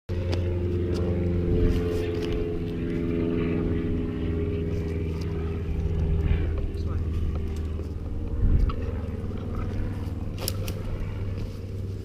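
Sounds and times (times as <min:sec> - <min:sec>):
engine running low hum: 0:00.1 - 0:12.0.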